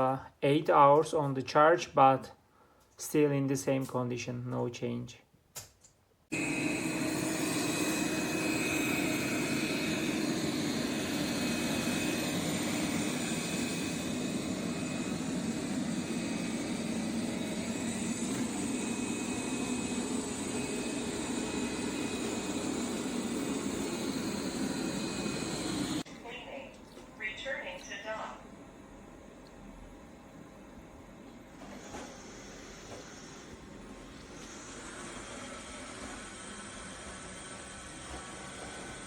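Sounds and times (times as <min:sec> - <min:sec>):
electric motor and fan running: 0:06.3 - 0:39.0.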